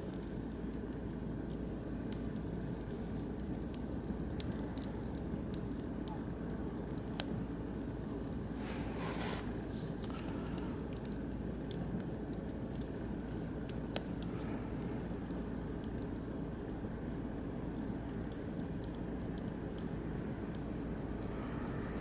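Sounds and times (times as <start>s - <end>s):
fire low rumble: 0.0s - 22.0s
wood fire crackling: 0.0s - 22.0s.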